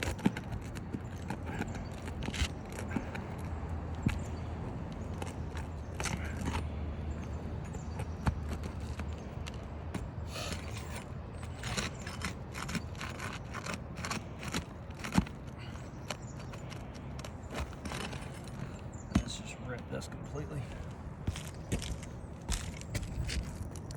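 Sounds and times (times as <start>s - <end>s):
roof shingles scraping and crackling: 0.0s - 9.6s, 10.3s - 23.9s.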